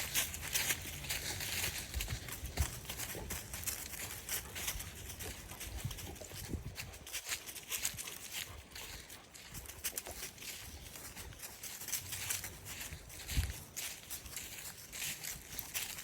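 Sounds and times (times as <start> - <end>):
crunching footsteps: 0.0 - 16.0.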